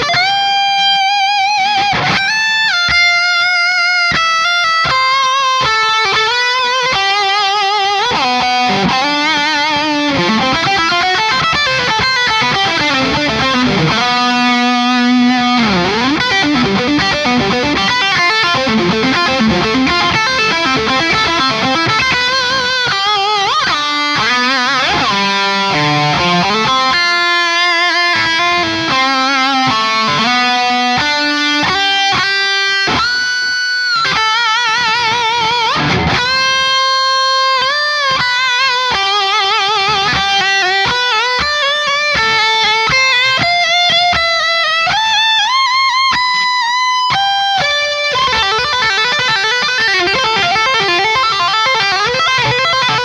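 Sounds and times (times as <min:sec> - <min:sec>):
distorted electric guitar lead: 0:00.0 - 0:53.0.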